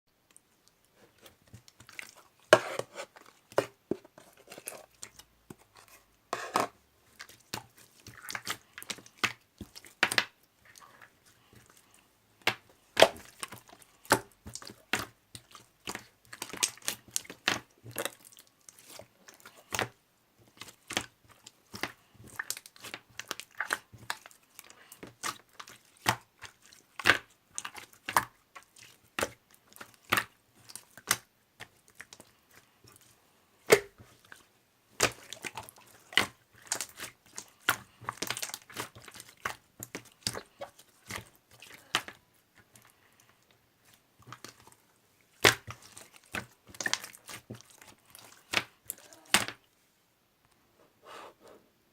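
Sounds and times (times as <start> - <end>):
small clicks taps and crinkles: 0.2 - 6.1, 7.1 - 49.7.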